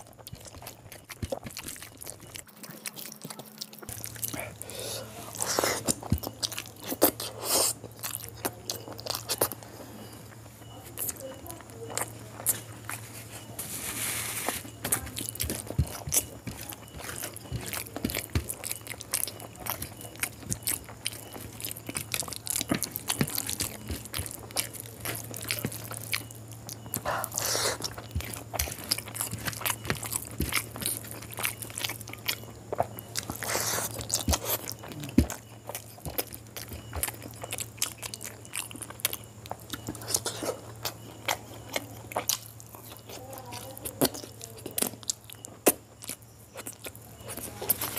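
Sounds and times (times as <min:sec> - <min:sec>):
chewing and biting food: 0:00.0 - 0:47.9.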